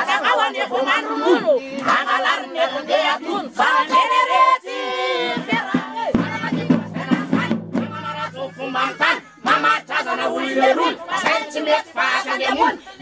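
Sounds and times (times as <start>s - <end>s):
lead singer with group: 0.0s - 13.0s.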